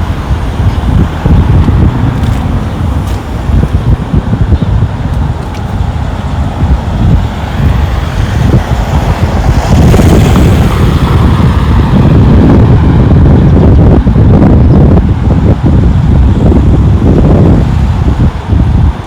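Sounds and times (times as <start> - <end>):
road vehicle passing: 0.0 - 19.0
wind buffeting microphone: 0.0 - 19.0.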